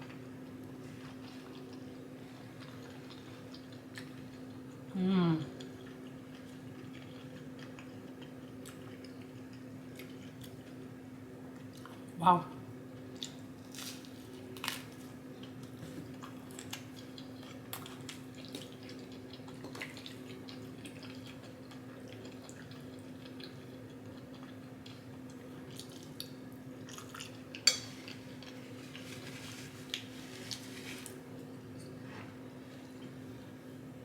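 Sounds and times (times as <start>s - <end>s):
soft chewing: 0.0s - 12.2s, 12.9s - 33.8s.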